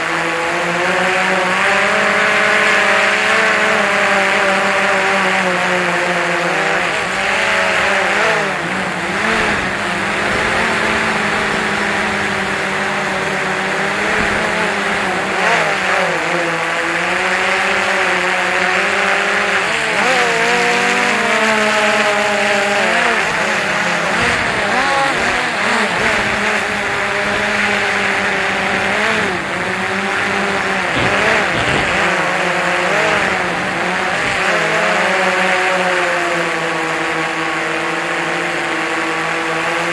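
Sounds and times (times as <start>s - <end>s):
quadcopter propellers whining: 0.0s - 39.9s.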